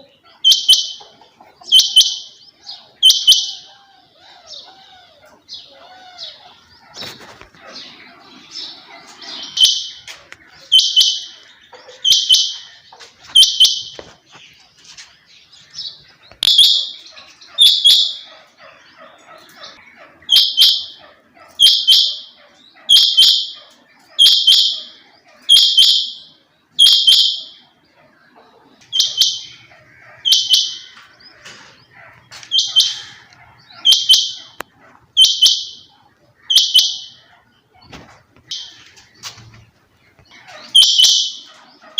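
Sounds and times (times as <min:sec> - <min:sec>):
quail calling: 0:00.0 - 0:41.9.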